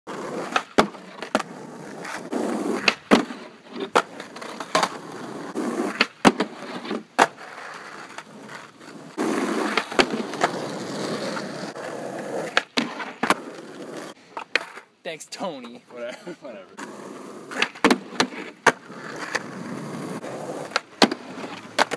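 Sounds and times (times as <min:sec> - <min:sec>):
skateboard clacks: 0:00.1 - 0:14.9, 0:16.8 - 0:21.9
skateboard scraping along bench: 0:00.1 - 0:14.9, 0:16.7 - 0:21.9
skateboard wheels rolling on asphalt: 0:00.1 - 0:15.0, 0:16.7 - 0:21.9.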